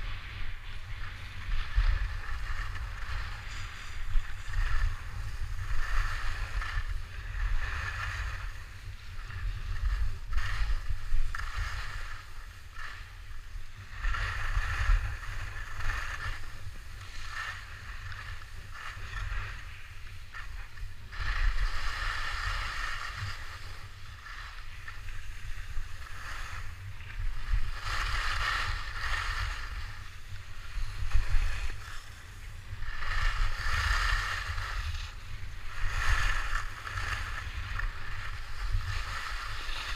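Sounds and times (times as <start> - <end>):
skis scraping on snow: 0.0 - 39.9
wind rumble on microphone: 0.0 - 39.9.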